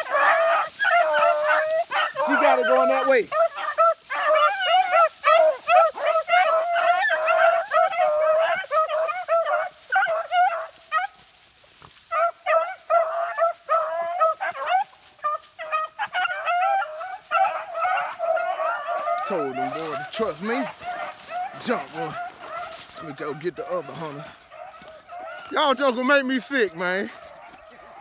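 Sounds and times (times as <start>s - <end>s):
dogs baying and yelping: 0.0s - 28.0s.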